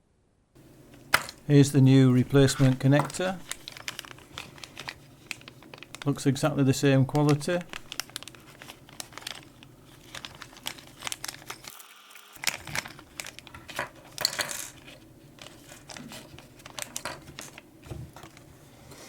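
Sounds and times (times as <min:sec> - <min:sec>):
plastic packaging crinkling: 0:01.0 - 0:18.5.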